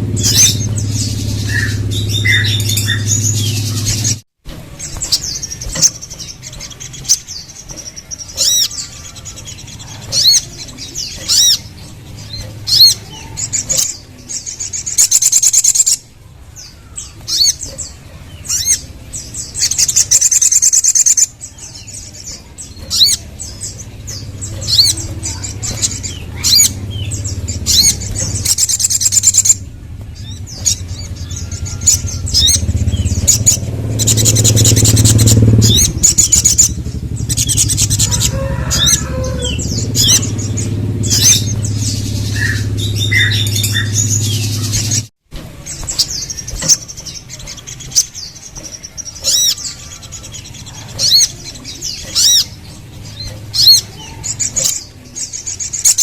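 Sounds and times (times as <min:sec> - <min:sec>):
steady low hum: 0:00.0 - 0:55.9
bird singing chirps and trills: 0:00.0 - 0:56.0.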